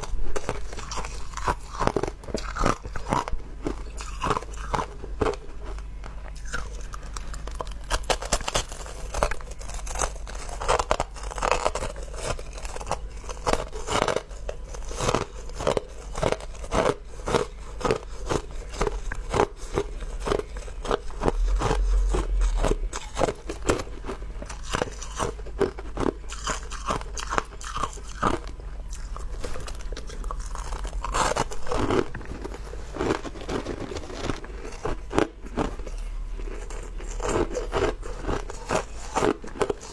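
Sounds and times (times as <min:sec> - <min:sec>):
crushed ice crunching: 0:06.4 - 0:39.9.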